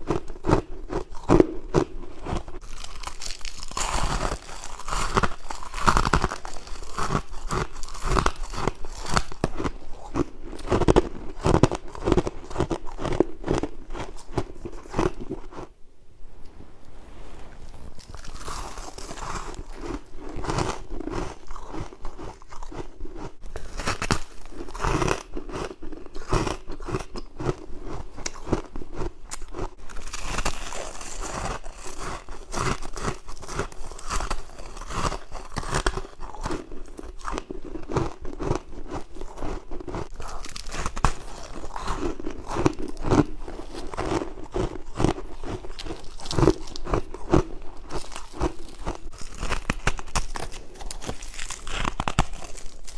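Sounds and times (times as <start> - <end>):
person chewing crunchy frost: 0.0 - 15.8, 17.6 - 52.9.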